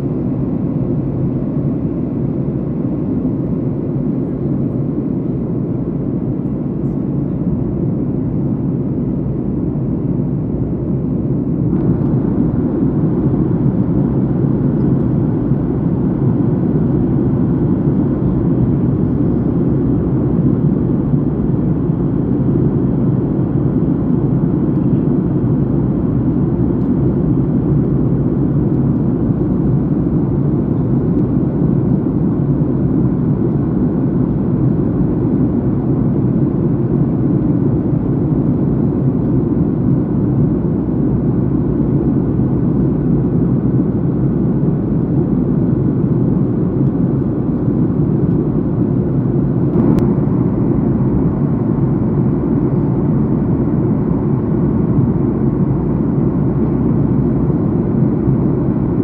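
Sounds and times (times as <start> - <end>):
jet engines rushing in cabin: 0.0 - 59.0.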